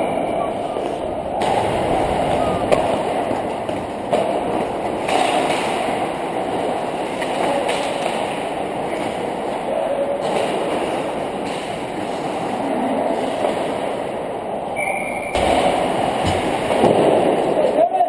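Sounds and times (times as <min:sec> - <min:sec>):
skates scraping on ice: 0:00.0 - 0:14.3, 0:15.4 - 0:17.8.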